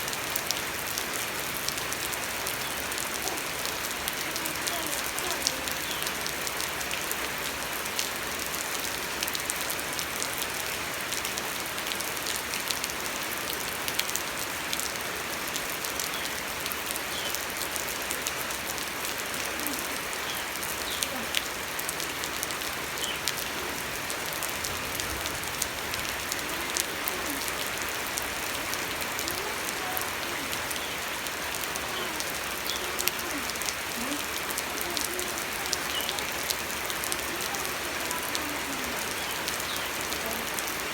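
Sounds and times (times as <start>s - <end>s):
rain drops ticking on surface: 0.0s - 40.9s.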